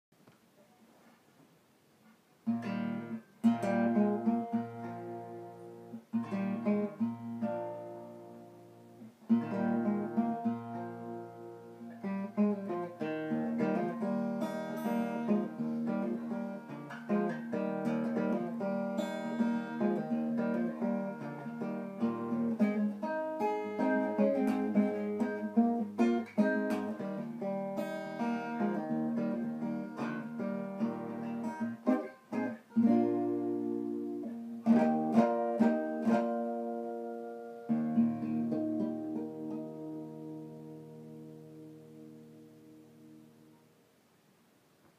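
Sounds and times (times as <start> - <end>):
fingerpicked resonator guitar: 2.4 - 43.8.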